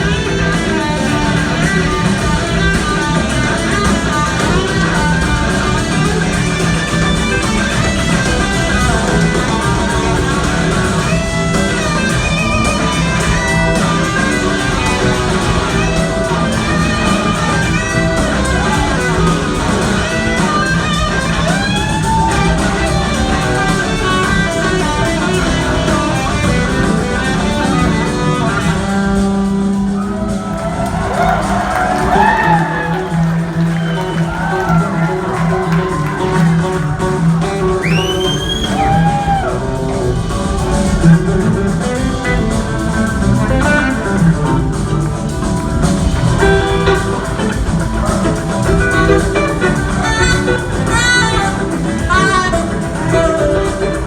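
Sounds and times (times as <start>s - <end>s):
electric guitar lead line: 0.0s - 54.0s
live rock band: 0.0s - 54.0s.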